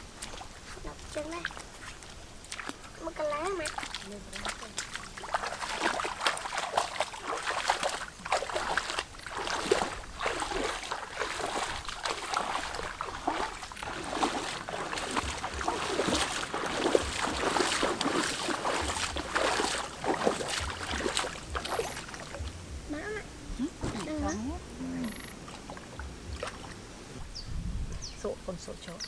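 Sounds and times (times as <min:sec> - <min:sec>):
wading through shallow water: 0:00.0 - 0:27.4.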